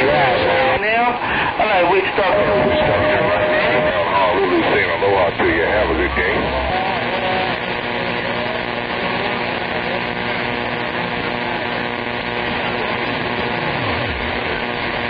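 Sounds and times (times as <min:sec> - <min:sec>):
garbled distant radio signals: 0:00.0 - 0:15.0
radio static hiss: 0:00.0 - 0:15.0.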